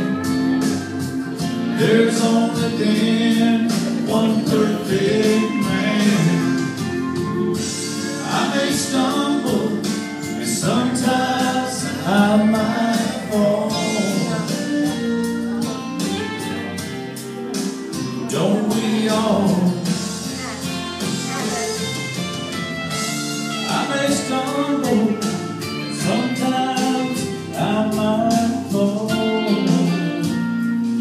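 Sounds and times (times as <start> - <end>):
person singing: 0.0 - 22.0, 23.0 - 31.0
acoustic guitar: 0.0 - 31.0
keyboard: 0.0 - 31.0.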